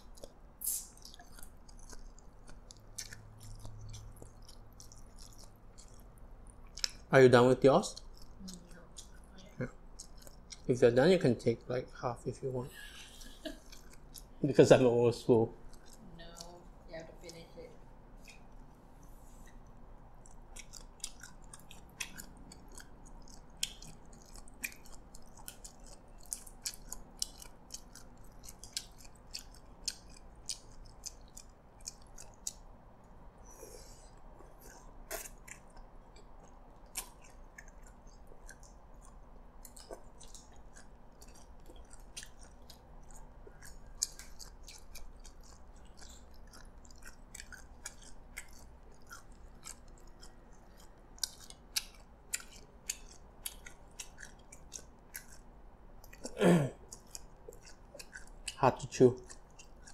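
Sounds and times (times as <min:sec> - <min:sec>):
person chewing with wet mouth smacks: 0:00.0 - 0:11.9, 0:13.2 - 0:59.9.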